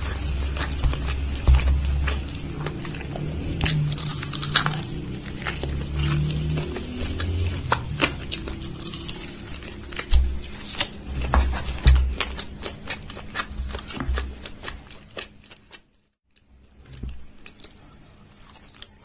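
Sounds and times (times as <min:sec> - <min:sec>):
chewing thuds: 0:00.0 - 0:15.6.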